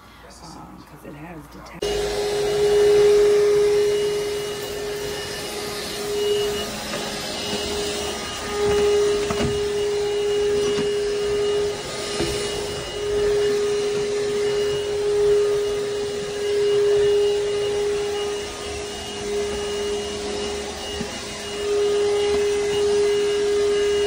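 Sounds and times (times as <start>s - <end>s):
stick vacuum cleaner running: 1.2s - 24.0s.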